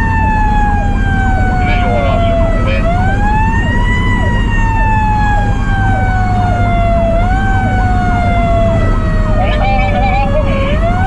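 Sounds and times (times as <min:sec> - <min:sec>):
electronic siren falling sweeps: 0:00.0 - 0:11.0
fire engine engine rumble: 0:00.0 - 0:11.0
mechanical siren whining: 0:00.0 - 0:11.0.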